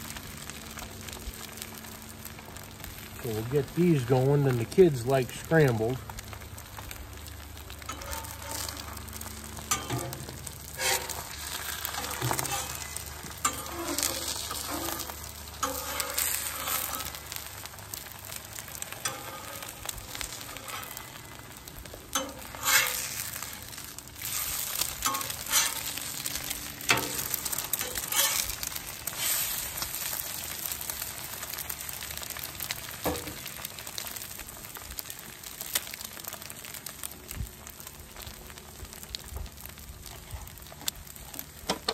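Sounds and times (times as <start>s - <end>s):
eggs sizzling on griddle: 0.0s - 41.9s.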